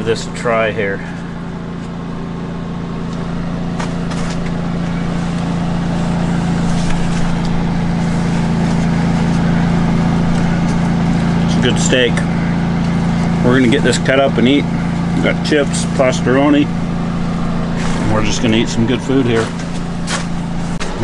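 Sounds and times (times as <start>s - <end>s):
generator engine hum: 0.0s - 21.0s.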